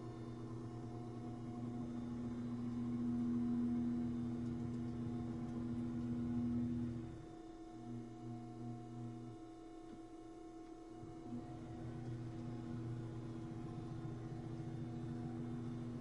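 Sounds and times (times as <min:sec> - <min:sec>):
steady low whirr: 0:00.0 - 0:16.0.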